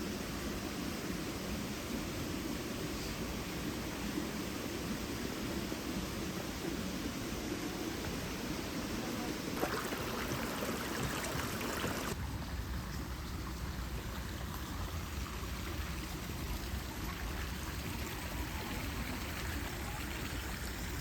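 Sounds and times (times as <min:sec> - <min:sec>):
running water: 0:00.0 - 0:21.0.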